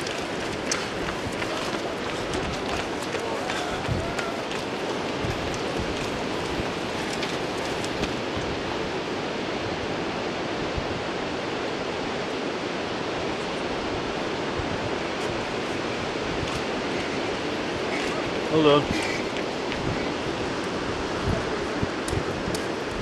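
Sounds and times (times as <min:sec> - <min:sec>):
steady rushing outdoor noise: 0:00.0 - 0:23.0.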